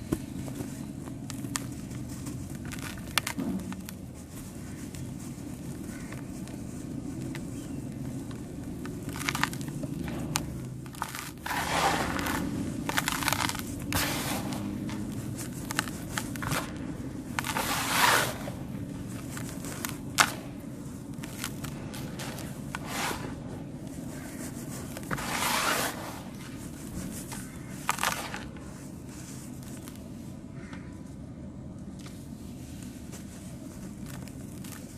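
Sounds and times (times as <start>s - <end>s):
dried cement crunching: 0.0s - 31.2s, 31.9s - 34.9s.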